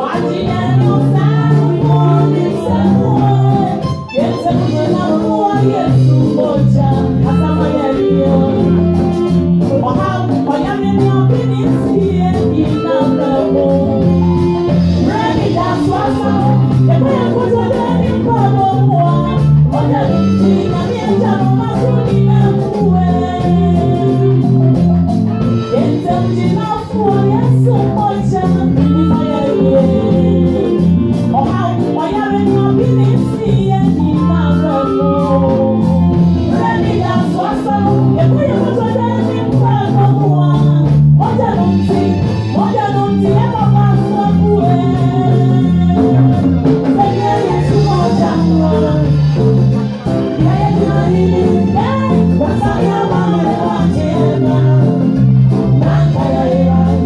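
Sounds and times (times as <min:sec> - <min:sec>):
instrumental accompaniment over speakers: 0:00.0 - 0:57.0
woman singing into microphone: 0:00.0 - 0:57.0
backing singers: 0:10.0 - 0:57.0.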